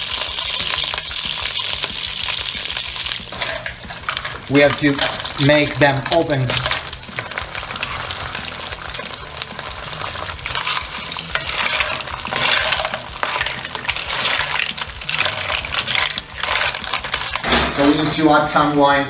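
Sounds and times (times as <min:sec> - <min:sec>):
shellfish sizzling in oil: 0:00.0 - 0:17.8
shells clattering in pan: 0:00.0 - 0:18.6.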